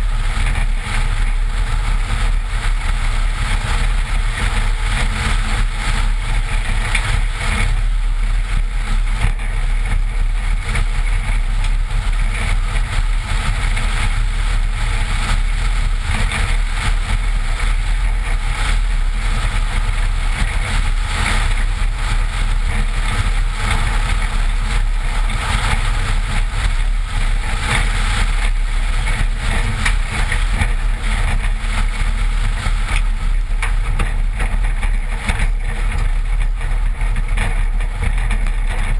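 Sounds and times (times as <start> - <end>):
tyres rumbling on dirt road: 0.0 - 38.9
wind over camera: 0.0 - 38.9.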